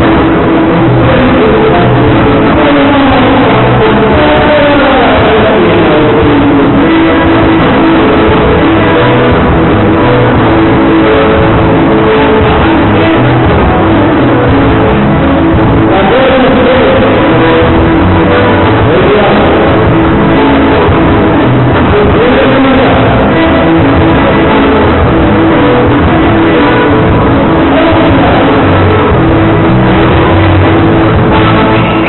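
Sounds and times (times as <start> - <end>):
live band playing dance music: 0.0 - 32.0.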